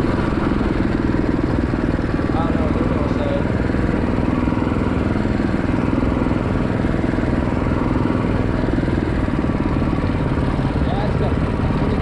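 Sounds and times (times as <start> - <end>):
small engine running at low speed: 0.0 - 12.0.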